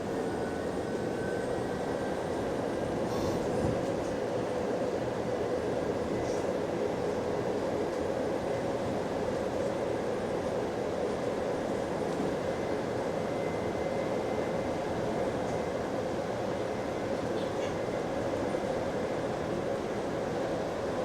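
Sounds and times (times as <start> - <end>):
bus drivetrain and road drone: 0.0 - 21.0.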